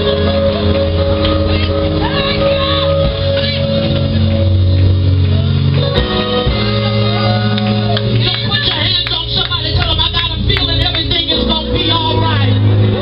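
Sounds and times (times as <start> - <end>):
live music chords and bass: 0.0 - 13.0.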